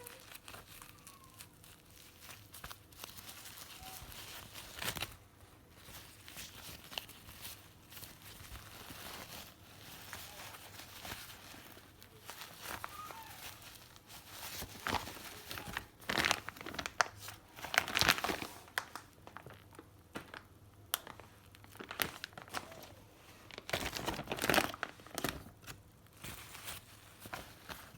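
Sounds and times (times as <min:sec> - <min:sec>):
plastic packaging crinkling: 0:00.0 - 0:27.9.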